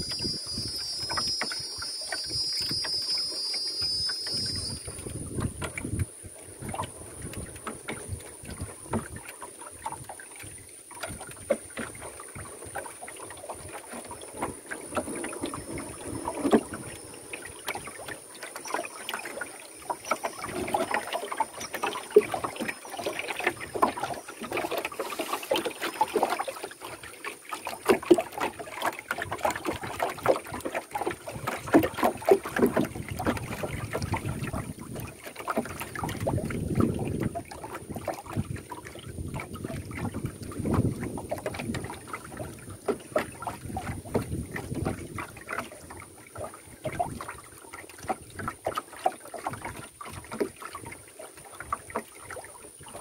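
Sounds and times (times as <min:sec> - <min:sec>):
small splashes and knocks: 0:00.0 - 0:53.0
water lapping against canoe: 0:00.0 - 0:53.0.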